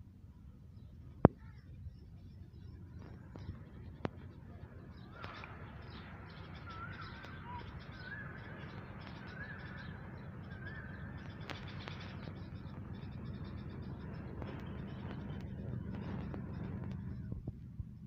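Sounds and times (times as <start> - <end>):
low background rumble: 0.0 - 18.0
birds chirping: 0.3 - 18.0.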